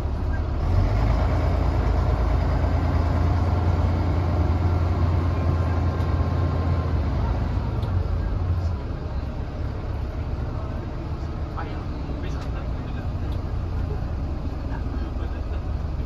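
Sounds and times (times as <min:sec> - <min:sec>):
bus diesel engine droning: 0:00.0 - 0:16.0
road noise: 0:00.0 - 0:16.0.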